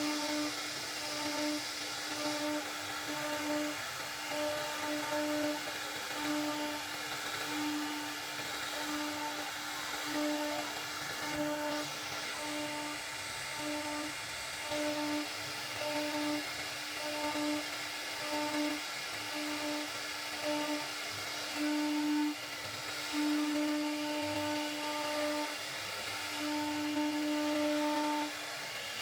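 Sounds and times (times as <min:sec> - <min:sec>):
machine hiss: 0:00.0 - 0:29.0
router spindle whining: 0:00.0 - 0:29.0.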